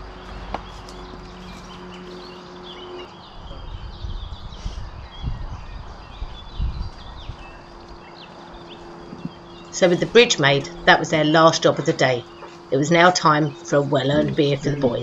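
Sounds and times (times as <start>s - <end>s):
birds chirping and singing: 0.0s - 15.0s
low steady hum: 0.0s - 15.0s.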